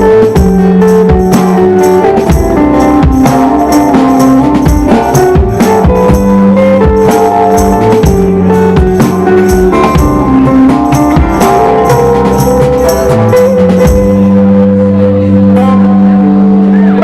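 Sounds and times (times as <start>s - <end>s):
percussion beat: 0.0s - 14.5s
guitars and bass: 0.0s - 17.0s.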